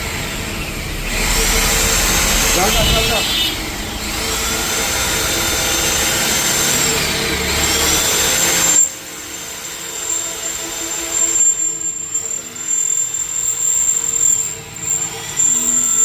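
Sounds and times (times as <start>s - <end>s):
electric drill boring into metal: 0.0s - 16.0s
low machine noise: 0.0s - 16.0s.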